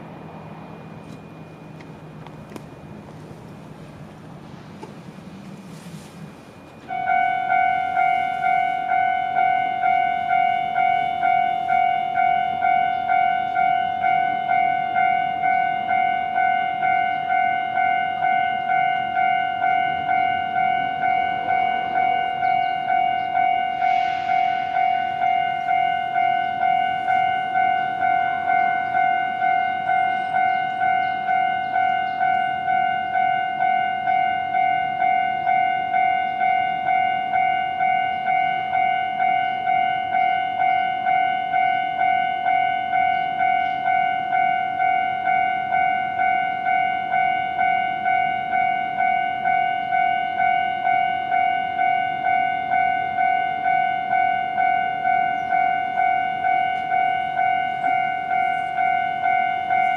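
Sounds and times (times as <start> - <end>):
level crossing warning bell: 0.0 - 4.4, 5.1 - 59.9.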